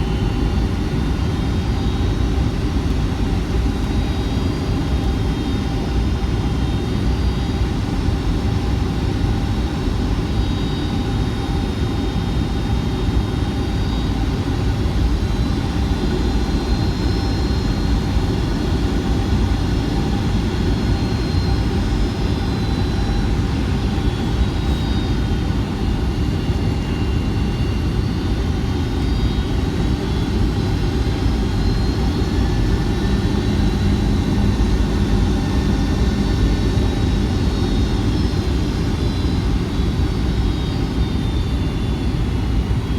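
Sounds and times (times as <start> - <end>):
airliner cabin engine rush: 0.0 - 42.9.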